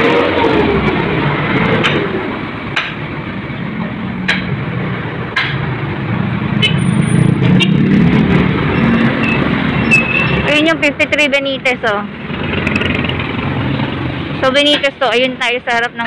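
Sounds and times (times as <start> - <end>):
motor vehicles passing: 0.0 - 16.0.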